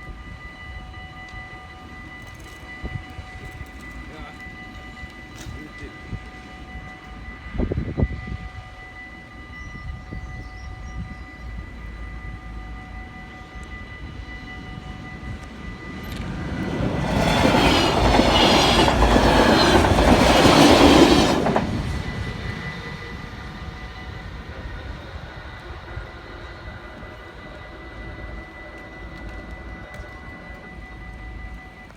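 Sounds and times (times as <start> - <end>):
crossing warning bells ringing: 0.1 - 31.9
train wheels rushing on rails: 0.3 - 31.9.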